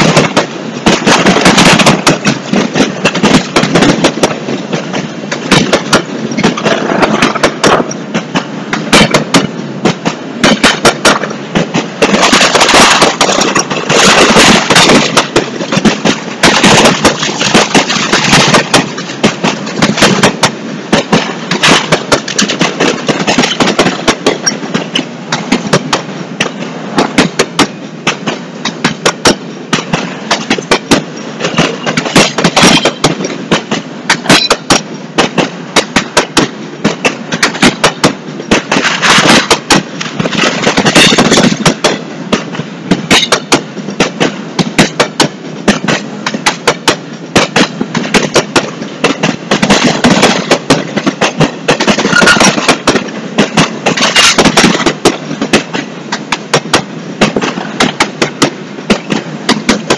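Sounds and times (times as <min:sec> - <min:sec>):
freight train rolling past: 0:00.0 - 0:59.9
rattling train car parts: 0:00.0 - 0:59.9
steel wheels clacking on rails: 0:00.0 - 0:59.9.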